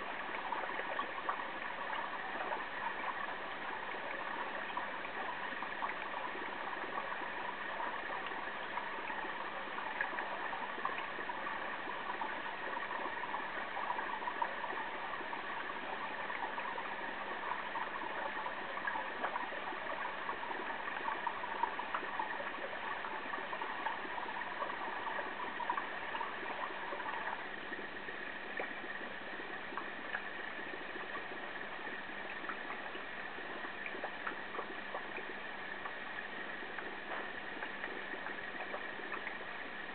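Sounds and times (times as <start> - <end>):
aquarium water rushing: 0.0 - 39.9
faint steady hum: 0.0 - 39.9.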